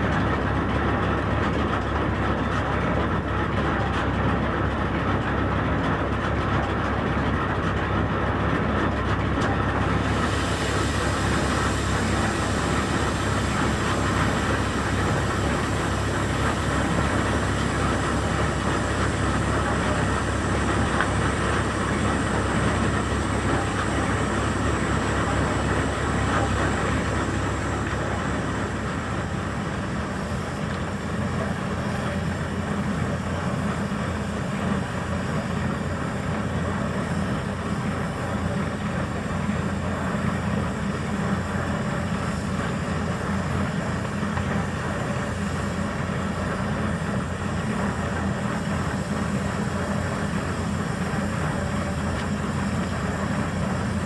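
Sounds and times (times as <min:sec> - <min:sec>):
steady engine noise: 0:00.0 - 0:54.0.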